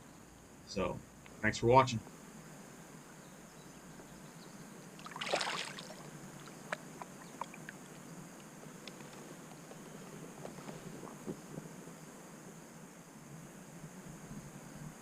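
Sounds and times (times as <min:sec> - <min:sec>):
outdoor ambience on water: 0:00.0 - 0:15.0.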